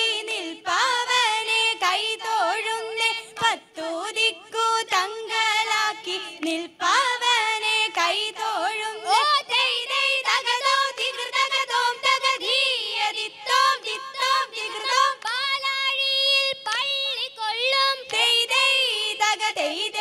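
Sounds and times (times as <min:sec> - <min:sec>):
women singing in unison: 0:00.0 - 0:20.0.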